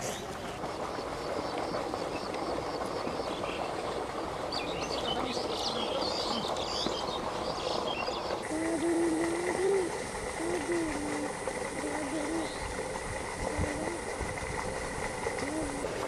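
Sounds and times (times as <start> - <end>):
steady outdoor hiss: 0.0 - 16.0
small songbirds chirping: 0.9 - 14.4.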